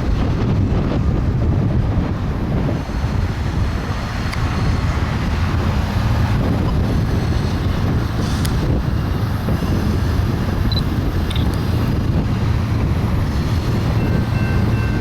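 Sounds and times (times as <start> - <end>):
freight train rumbling by: 0.0 - 15.0.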